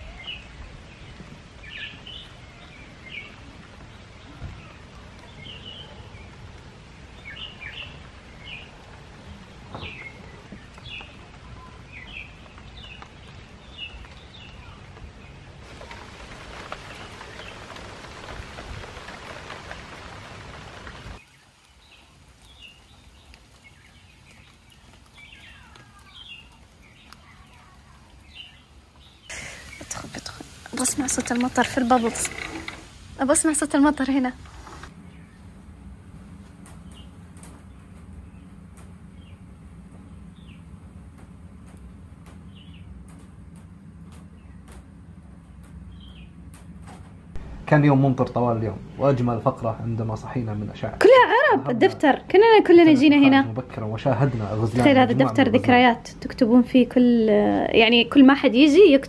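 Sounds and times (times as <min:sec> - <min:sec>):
birds chirping: 0:00.0 - 0:59.0
rain falling in forest: 0:00.0 - 0:59.0.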